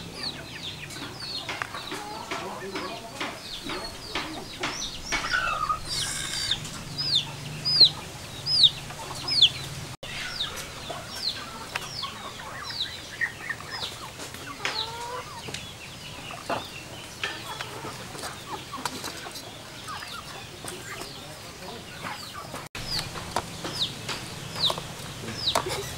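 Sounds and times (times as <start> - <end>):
bird peeping: 0.0 - 25.9.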